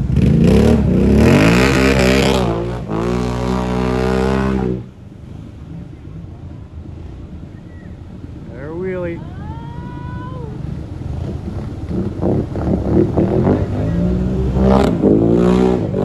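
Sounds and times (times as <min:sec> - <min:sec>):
atv engine revving: 0:00.0 - 0:06.2, 0:08.2 - 0:16.0
dull water rush: 0:00.0 - 0:16.0.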